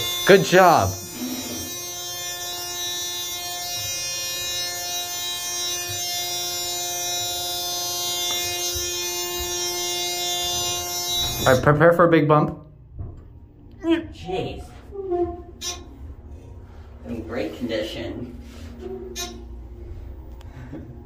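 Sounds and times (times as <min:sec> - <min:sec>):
elevator electrical hum: 0:00.0 - 0:21.0.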